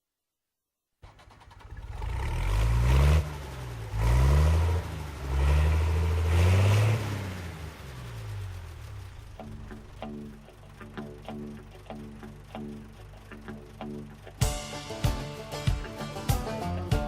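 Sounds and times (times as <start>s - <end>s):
vehicle engine accelerating: 1.0s - 17.0s.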